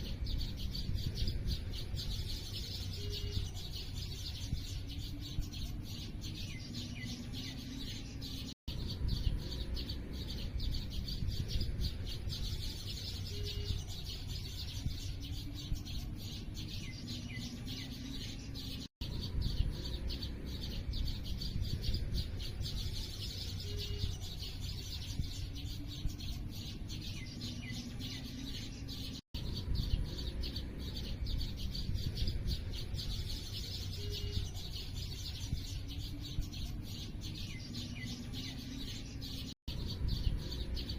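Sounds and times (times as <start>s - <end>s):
low steady rumble: 0.0s - 40.9s
small birds chirping: 0.0s - 40.9s.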